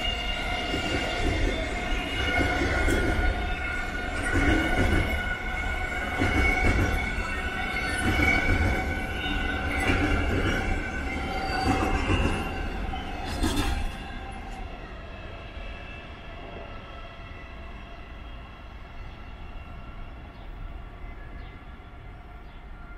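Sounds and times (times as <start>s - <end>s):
freight train rumbling past: 0.0s - 22.9s.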